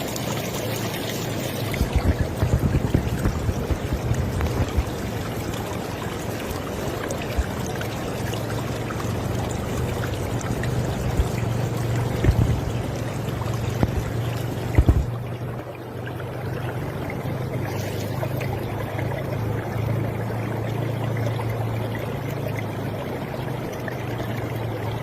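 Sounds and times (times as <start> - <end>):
river water flowing: 0.0 - 25.0
water splashing and gurgling: 0.0 - 25.0.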